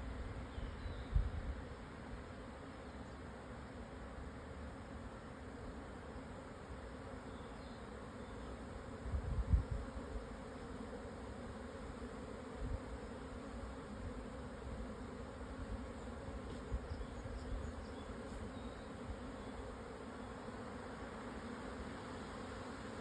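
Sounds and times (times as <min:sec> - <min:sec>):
bee swarm buzzing: 0:03.4 - 0:23.0.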